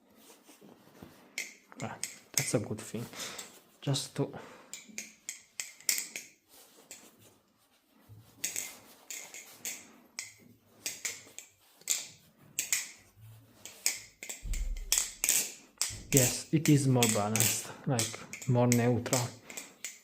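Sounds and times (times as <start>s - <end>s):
balisong handles clacking: 1.3s - 3.6s, 4.7s - 7.1s, 8.4s - 20.0s.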